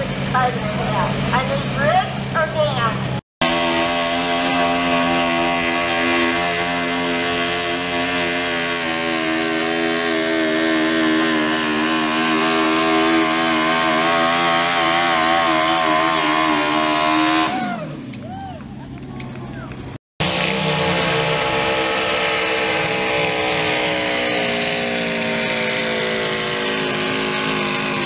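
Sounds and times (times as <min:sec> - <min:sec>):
lawn mower engine at full throttle: 0:00.0 - 0:17.9, 0:20.2 - 0:28.0.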